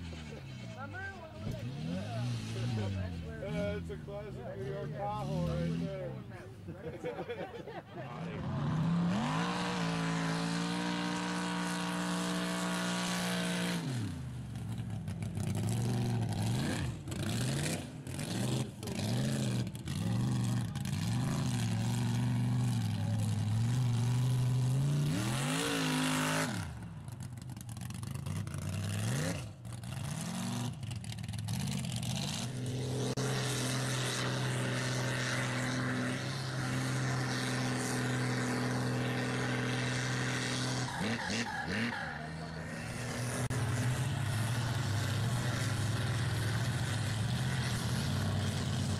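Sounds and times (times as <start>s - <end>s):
truck engines revving in mud: 0.0s - 48.9s.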